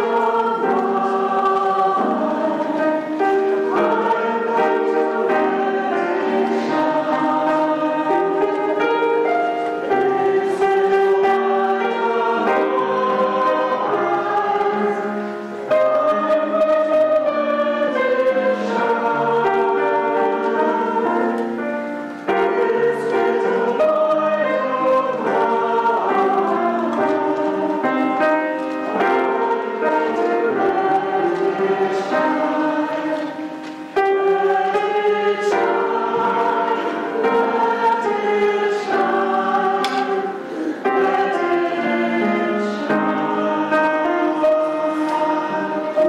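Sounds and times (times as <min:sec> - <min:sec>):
church choir singing in harmony: 0:00.0 - 0:46.0.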